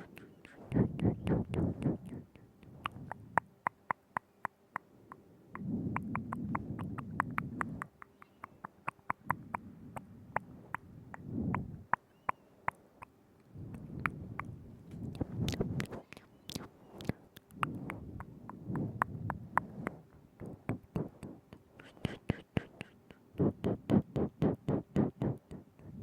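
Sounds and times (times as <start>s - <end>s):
soft wet mouth noise: 0.0s - 26.0s
wet tongue and lip clicks: 0.0s - 26.0s.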